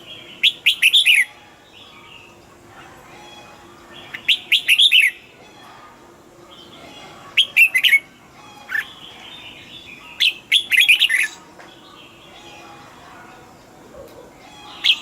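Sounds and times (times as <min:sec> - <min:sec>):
bulbul singing: 0:00.0 - 0:05.8, 0:06.4 - 0:13.2, 0:14.4 - 0:15.0
faint birds calling: 0:00.0 - 0:15.0.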